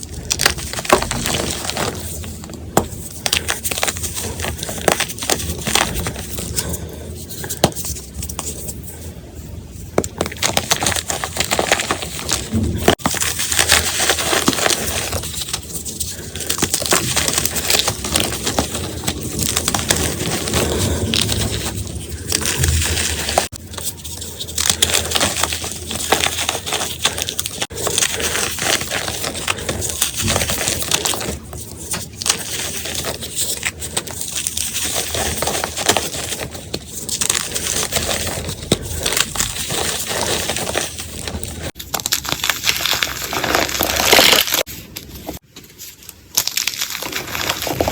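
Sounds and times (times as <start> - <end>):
chalk being crushed: 0.0 - 8.9, 9.9 - 45.4.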